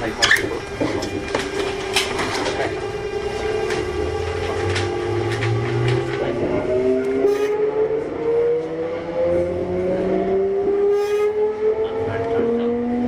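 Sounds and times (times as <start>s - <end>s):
low hum: 0.0s - 13.0s
train motors whining: 0.0s - 13.0s.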